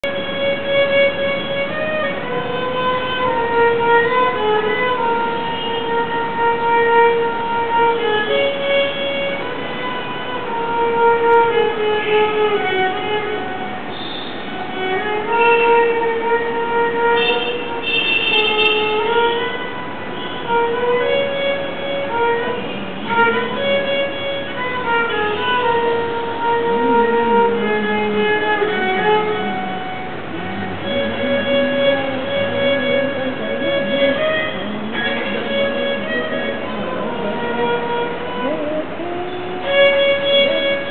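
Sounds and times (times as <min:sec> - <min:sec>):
solo violin melody: 0:00.0 - 0:40.9.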